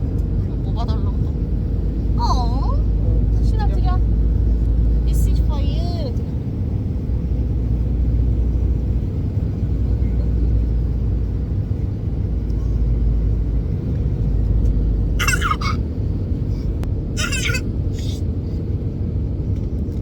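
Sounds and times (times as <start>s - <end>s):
airliner engines and airflow rumble: 0.0s - 20.0s.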